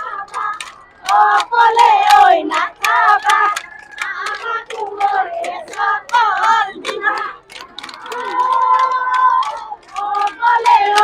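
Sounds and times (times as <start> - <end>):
high-pitched voices singing: 0.0 - 11.0.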